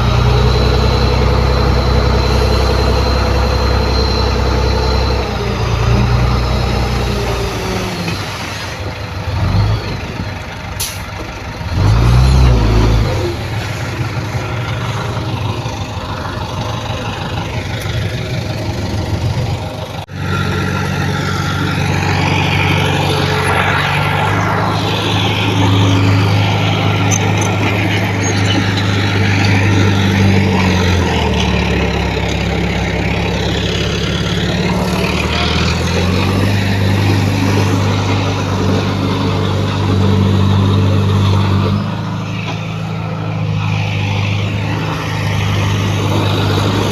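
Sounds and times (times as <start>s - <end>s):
heavy diesel engines working: 0.0s - 46.9s.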